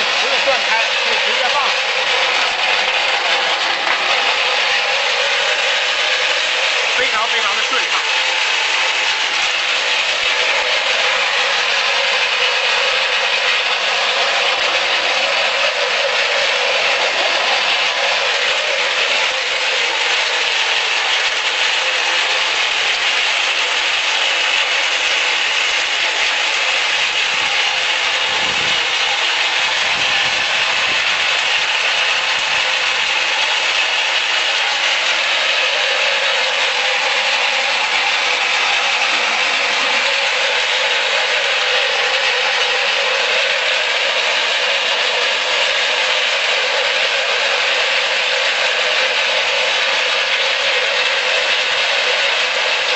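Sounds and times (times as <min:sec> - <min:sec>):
meat grinder running: 0:00.0 - 0:52.9.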